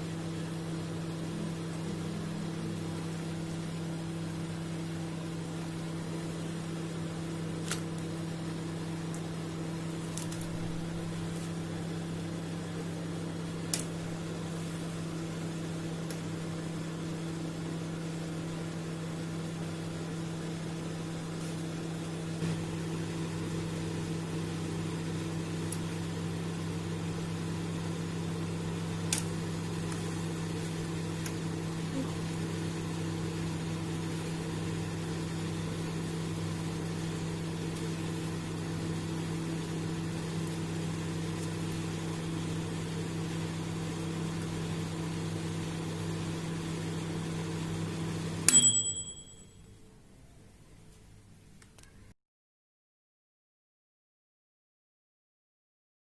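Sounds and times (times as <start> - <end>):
microwave oven humming: 0.0 - 52.1.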